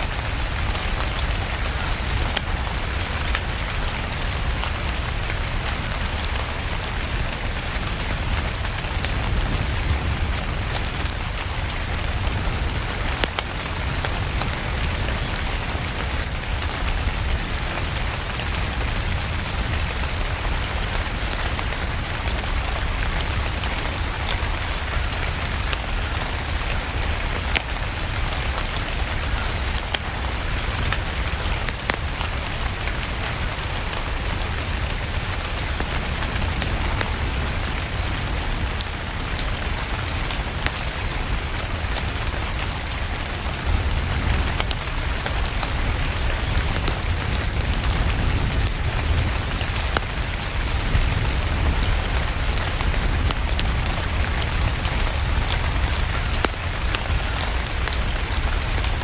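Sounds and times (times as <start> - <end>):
steady rain falling: 0.0 - 59.0
wood fire crackling: 0.0 - 59.0.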